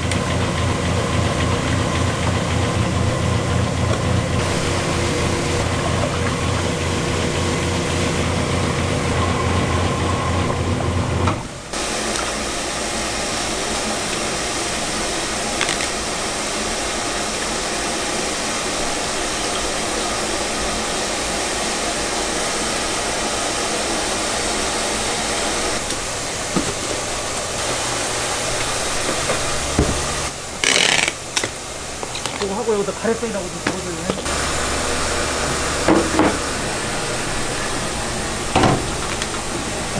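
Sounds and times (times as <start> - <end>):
machine motor pulsing hum: 0.0 - 30.9, 31.6 - 39.9
hissy machine noise: 0.0 - 39.9.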